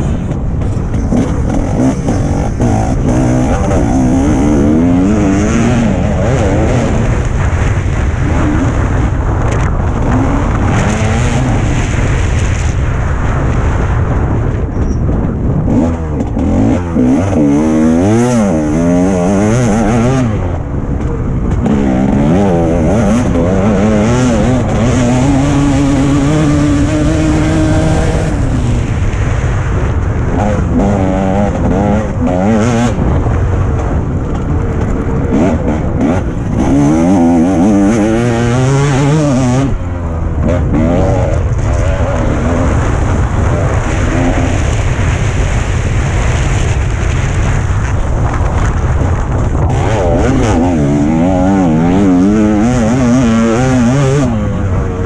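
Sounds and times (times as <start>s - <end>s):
motocross bike engine revving: 0.0s - 14.4s, 15.6s - 55.0s.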